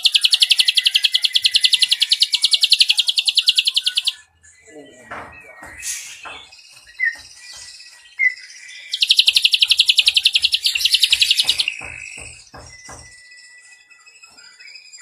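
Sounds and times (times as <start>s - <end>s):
bird singing whistles and trill: 0.0s - 15.0s.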